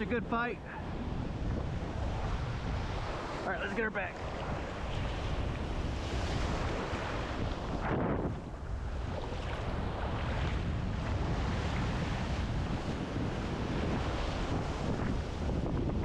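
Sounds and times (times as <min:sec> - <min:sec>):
surf washing in: 0:00.0 - 0:16.0
wind buffeting microphone: 0:00.0 - 0:16.0.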